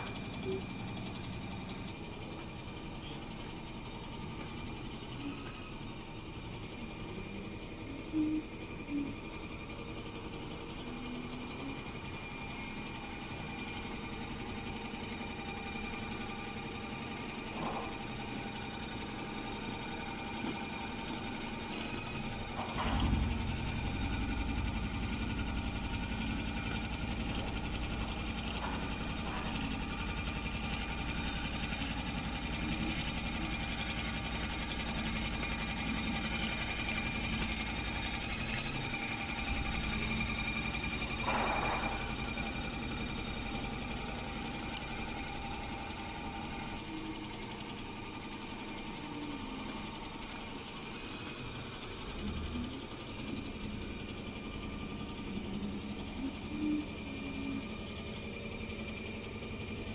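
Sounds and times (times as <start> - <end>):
sewing machine whirring: 0.0 - 59.9.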